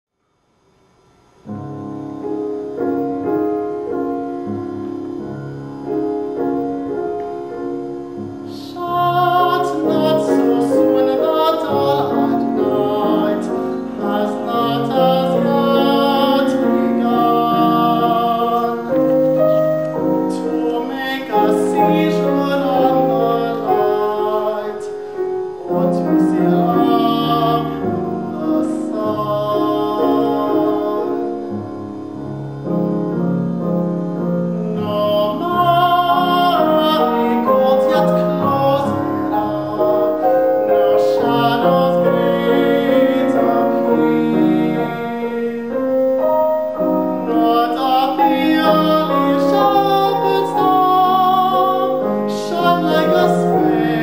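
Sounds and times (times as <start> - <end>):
classical piano: 1.1 - 54.0
operatic singing with vibrato: 2.8 - 54.0.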